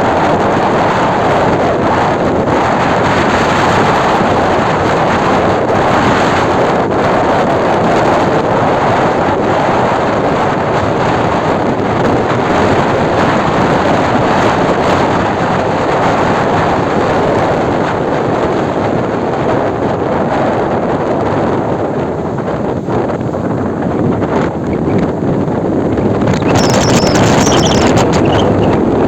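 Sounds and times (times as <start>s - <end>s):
rough sea surf: 0.0s - 29.0s
wind buffeting microphone: 0.0s - 29.0s.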